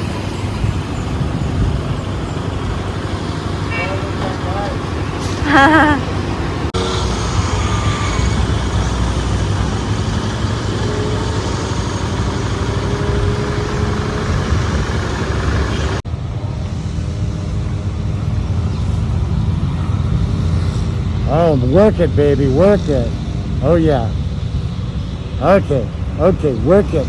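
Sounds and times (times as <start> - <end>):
road vehicle rumble: 0.0 - 27.0.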